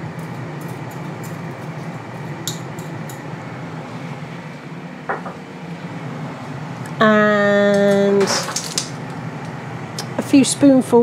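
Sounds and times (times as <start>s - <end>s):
air fryer fan running: 0.0s - 11.0s.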